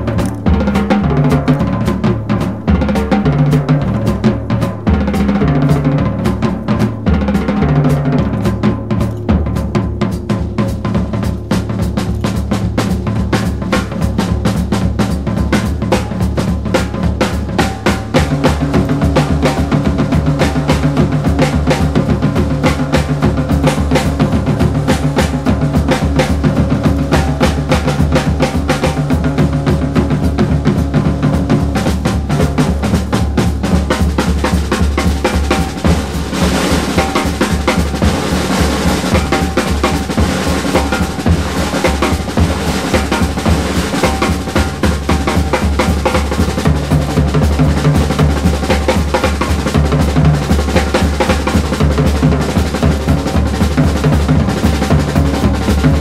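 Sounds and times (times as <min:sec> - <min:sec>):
music with fast drumming: 0:00.0 - 0:56.0.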